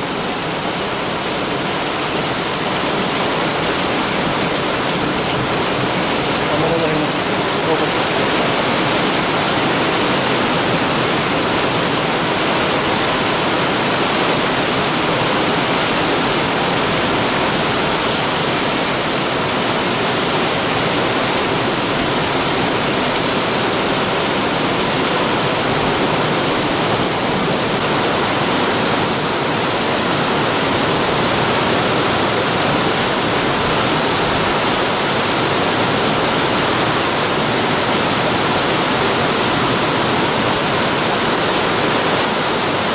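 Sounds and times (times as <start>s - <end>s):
torrential rain pouring: 0.0s - 42.9s.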